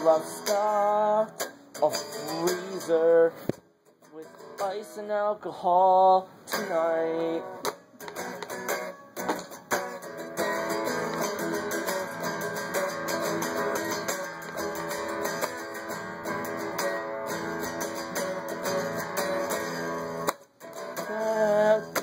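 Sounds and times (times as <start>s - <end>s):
guitar strumming chords: 0.0s - 22.0s.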